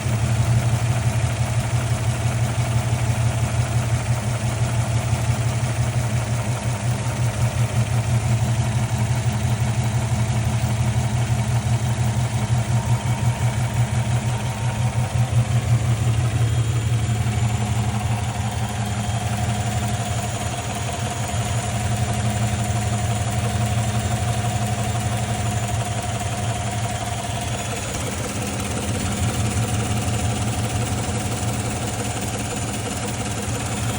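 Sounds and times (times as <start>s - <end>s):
car engine idling: 0.0s - 33.9s
engine ticking: 0.0s - 33.9s.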